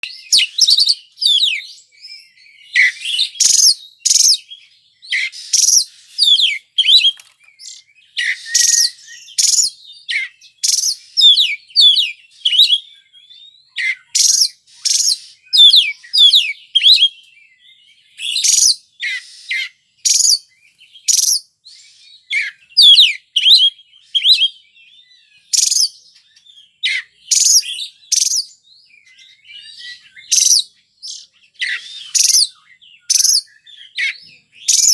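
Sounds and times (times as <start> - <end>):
songbird whistling and trilling: 0.0 - 34.9.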